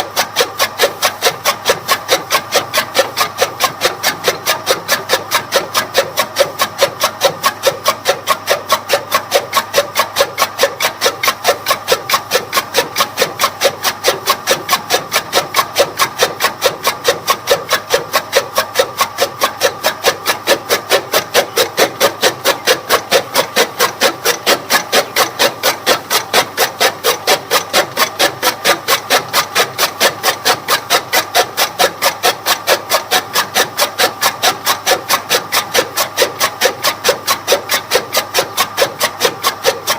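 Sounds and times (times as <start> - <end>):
chaff cutter blades chopping: 0.0 - 39.9.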